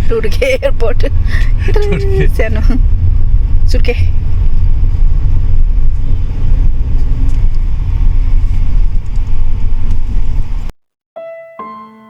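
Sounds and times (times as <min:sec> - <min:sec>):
car road and engine rumble: 0:00.0 - 0:10.7.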